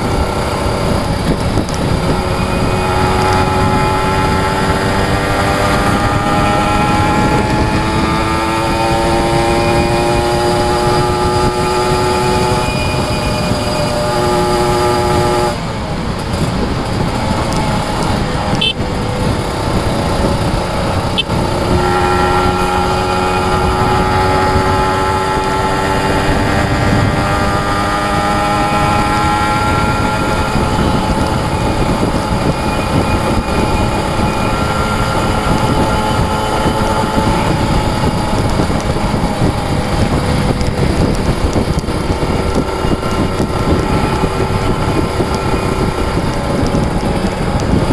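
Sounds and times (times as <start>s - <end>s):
motorcycle engine running hard: 0.0s - 47.9s
wind and road rumble: 0.0s - 47.9s.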